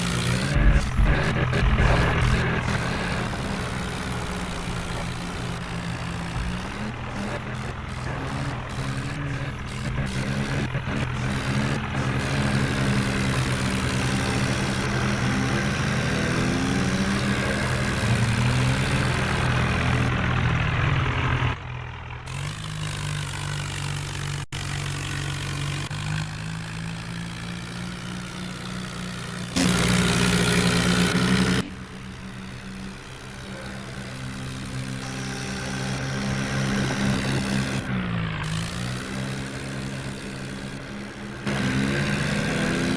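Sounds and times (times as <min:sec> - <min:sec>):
diesel engines revving: 0:00.0 - 0:42.9.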